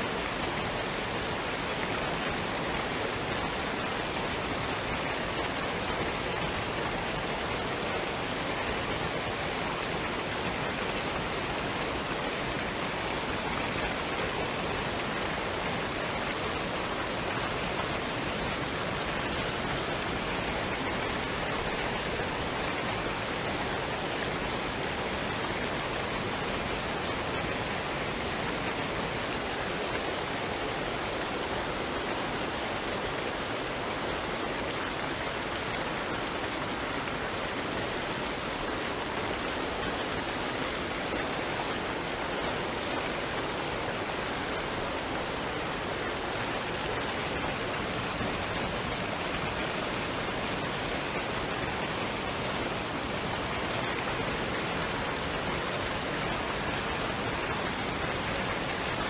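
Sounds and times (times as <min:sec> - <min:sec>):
waterfall and stream rushing: 0:00.0 - 0:59.0.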